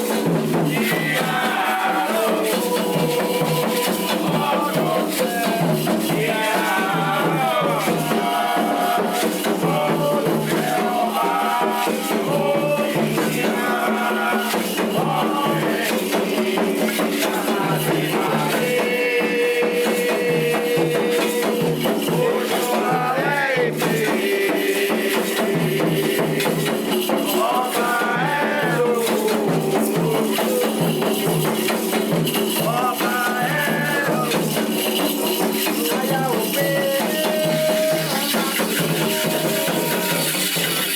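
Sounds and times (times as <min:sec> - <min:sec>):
shaken rattles and percussion: 0:00.0 - 0:40.9
voices singing a chant: 0:00.0 - 0:40.9.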